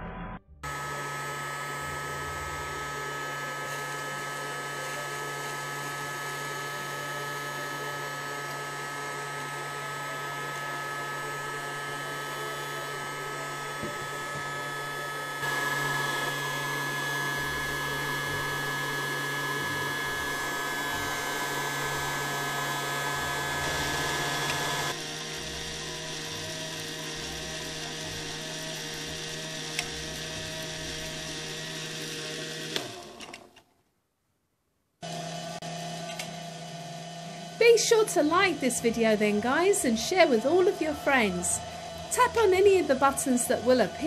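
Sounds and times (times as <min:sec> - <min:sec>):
toy vacuum cleaner motor whirring: 0:00.7 - 0:33.6, 0:35.0 - 0:44.0.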